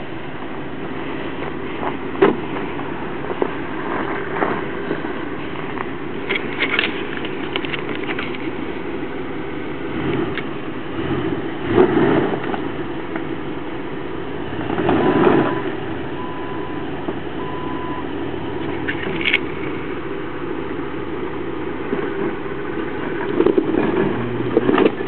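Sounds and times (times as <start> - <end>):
engine running low: 0.0 - 25.0.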